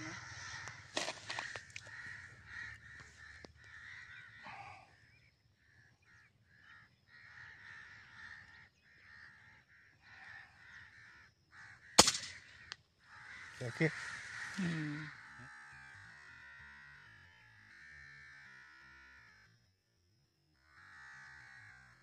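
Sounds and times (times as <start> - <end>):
crows cawing: 0.0 - 19.7, 20.6 - 22.0.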